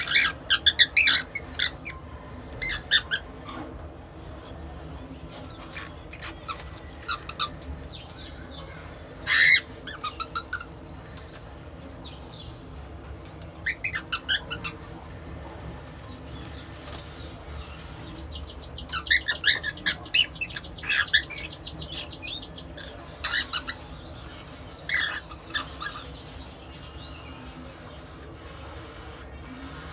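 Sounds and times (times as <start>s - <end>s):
cockatiel chirping song: 0.0s - 3.6s, 5.5s - 12.6s, 13.2s - 14.9s, 15.9s - 29.9s.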